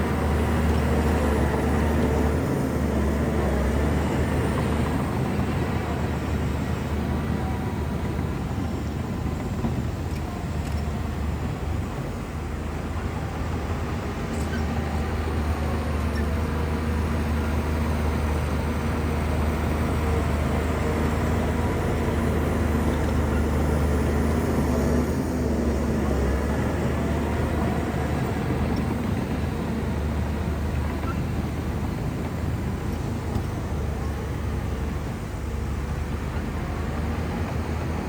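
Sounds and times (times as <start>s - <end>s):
bulldozer diesel engine droning: 0.0s - 38.0s.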